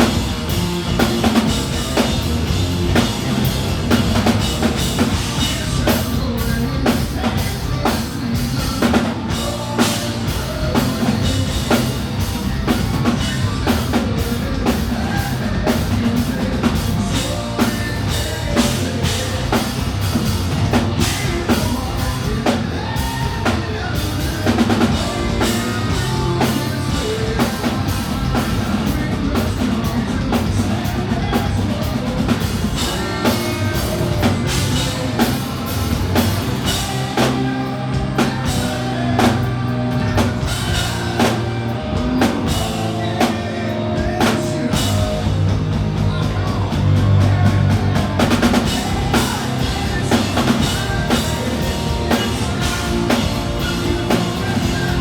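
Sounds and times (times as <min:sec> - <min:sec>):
drum kit beat: 0:00.0 - 0:55.0
live rock band: 0:00.0 - 0:55.0.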